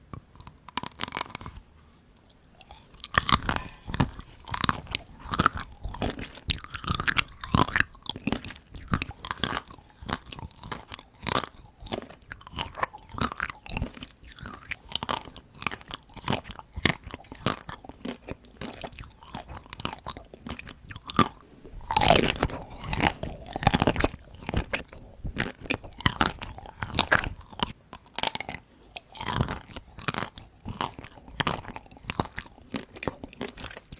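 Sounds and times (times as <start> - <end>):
chocolate shell crunching: 0.4 - 1.6, 2.2 - 33.9.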